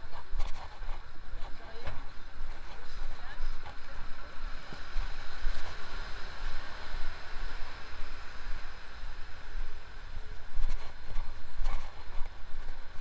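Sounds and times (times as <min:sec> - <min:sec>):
traffic hiss: 0:00.0 - 0:13.0
wind buffeting microphone: 0:00.0 - 0:13.0.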